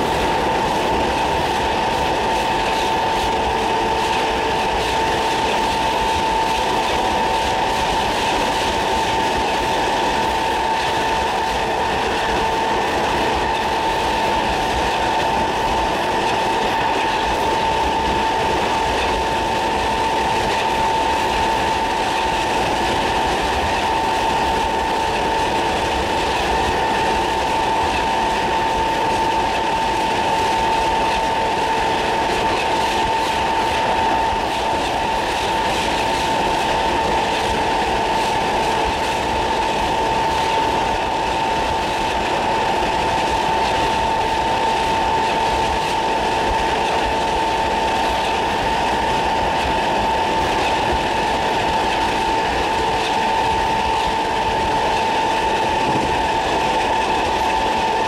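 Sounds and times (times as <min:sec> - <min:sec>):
clickety-clack of rail joints: 0:00.0 - 0:58.0
electric train motor whine: 0:00.0 - 0:58.0
wheels rumbling on rail: 0:00.0 - 0:58.0.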